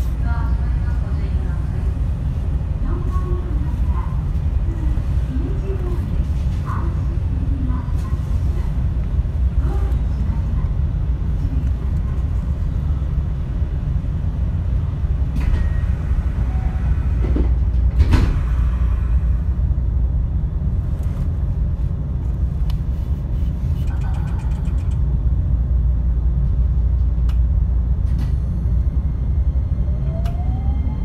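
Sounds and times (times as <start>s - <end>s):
train interior low rumble: 0.0s - 31.0s.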